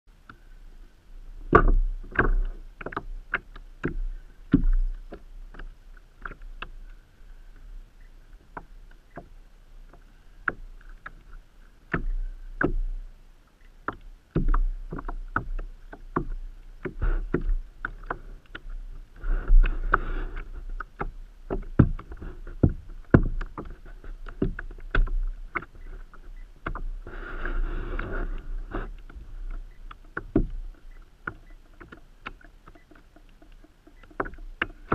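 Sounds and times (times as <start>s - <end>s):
knocks and taps on kayak: 1.4s - 7.0s, 8.4s - 13.0s, 13.7s - 34.9s.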